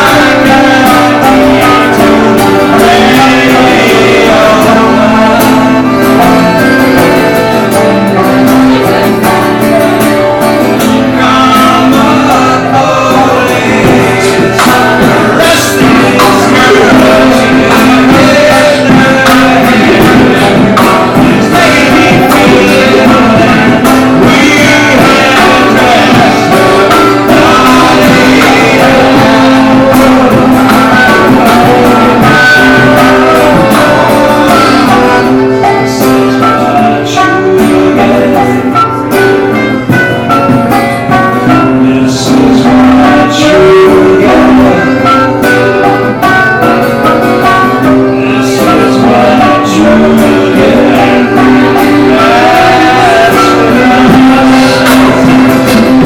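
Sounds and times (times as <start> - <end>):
guitar: 0.0 - 56.0
percussive beat: 0.0 - 56.0
voices singing together: 0.0 - 56.0.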